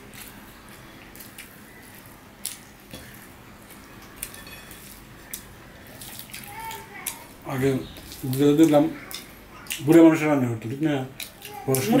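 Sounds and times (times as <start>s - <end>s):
soft squishing of food: 0.0s - 12.0s
chewing: 0.1s - 10.1s.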